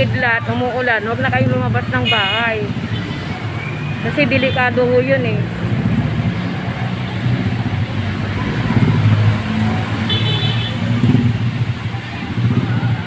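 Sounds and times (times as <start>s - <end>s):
motorcycles passing: 0.0s - 13.0s.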